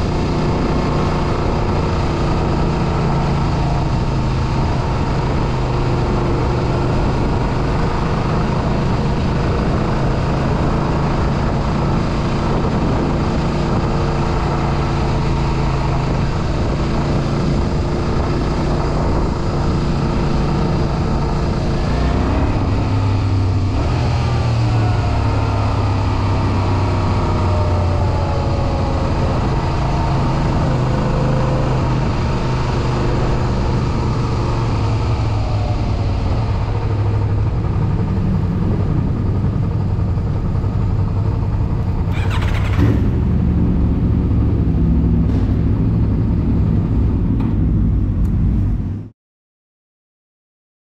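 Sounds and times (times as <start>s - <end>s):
motorcycle engine at low speed: 0.0s - 49.1s.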